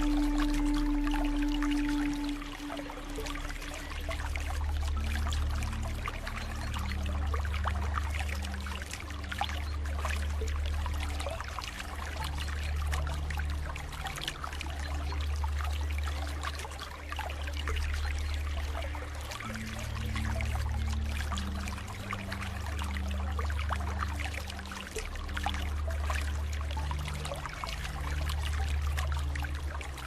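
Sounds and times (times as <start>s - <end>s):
soft low sustained music: 0.0s - 30.0s
water trickling and babbling: 0.0s - 30.0s.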